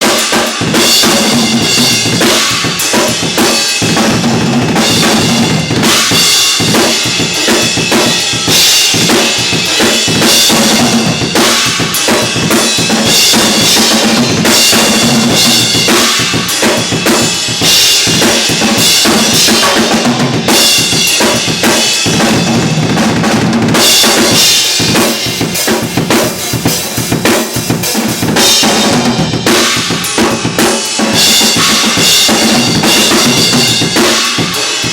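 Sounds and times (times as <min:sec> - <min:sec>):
acoustic drum kit playing: 0:00.0 - 0:34.9.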